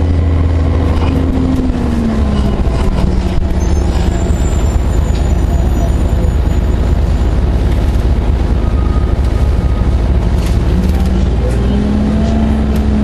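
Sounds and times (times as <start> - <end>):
bus engine drone: 0.0 - 13.0.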